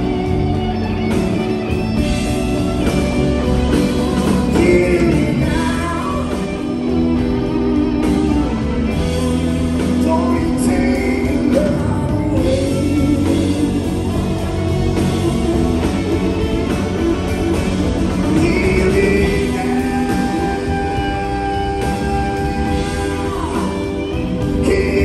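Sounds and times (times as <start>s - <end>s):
live blues-rock band: 0.0s - 25.0s.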